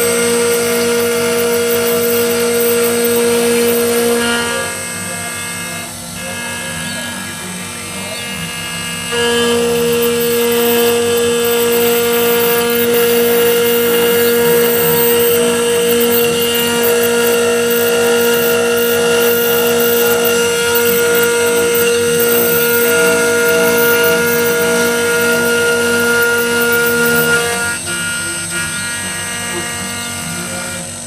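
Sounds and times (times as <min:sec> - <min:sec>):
cutter milling metal hiss: 0:00.0 - 0:31.0
router spindle whine: 0:00.0 - 0:31.0.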